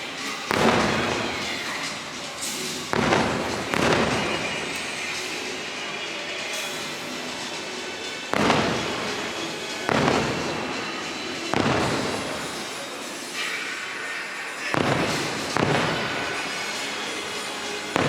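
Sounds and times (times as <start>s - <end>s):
faint show music: 0.0s - 18.0s
fireworks booming: 0.2s - 12.9s, 14.6s - 18.0s.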